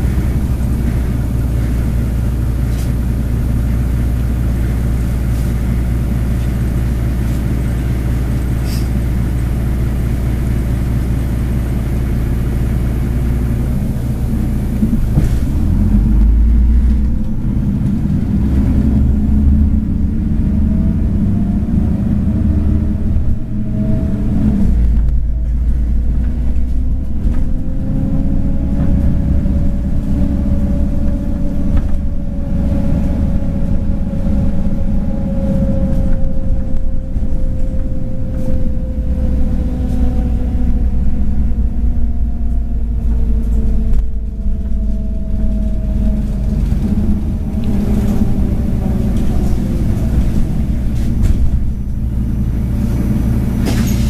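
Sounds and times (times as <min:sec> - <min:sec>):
bus engine: 0:00.0 - 0:54.0.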